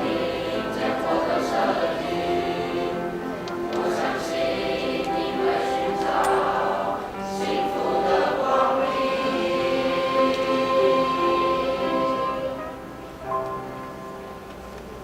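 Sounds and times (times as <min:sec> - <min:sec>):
choir singing long notes: 0:00.0 - 0:13.2.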